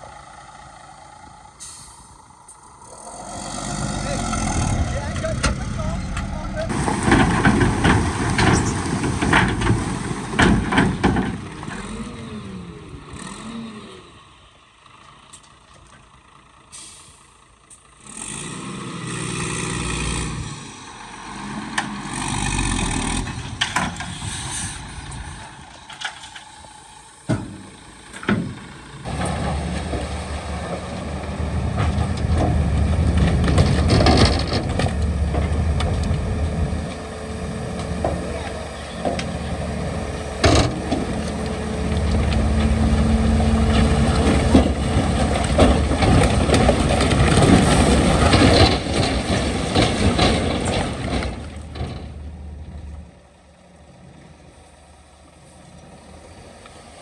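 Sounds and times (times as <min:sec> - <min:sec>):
loud engine running steadily: 0:00.0 - 0:13.8, 0:23.0 - 0:57.0
diesel engine revving: 0:00.0 - 0:57.0.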